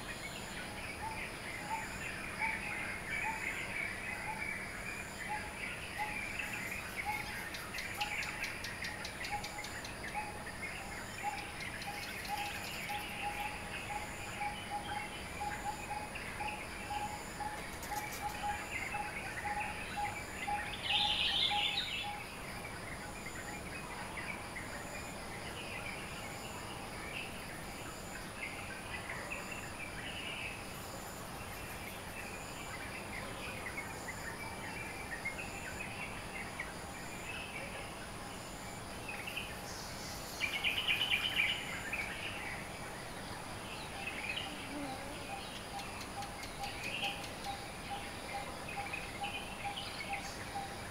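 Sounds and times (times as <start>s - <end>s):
birds chirping and twittering: 0.0s - 50.9s.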